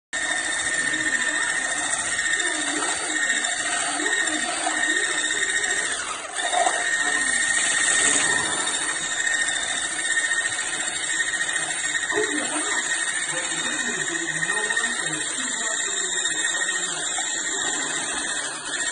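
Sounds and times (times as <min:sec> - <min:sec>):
hand blender motor whine: 0:00.2 - 0:18.9.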